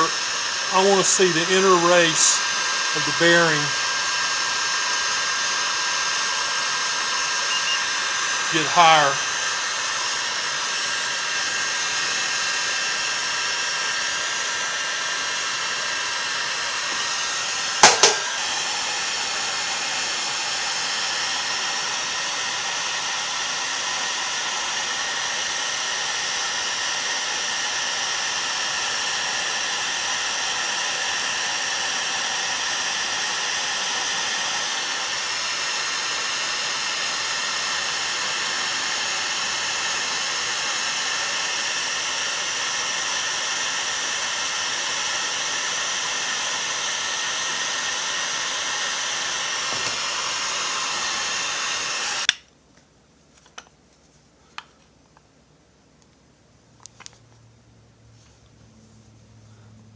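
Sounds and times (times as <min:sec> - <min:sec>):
heat gun blowing: 0:00.0 - 0:52.4.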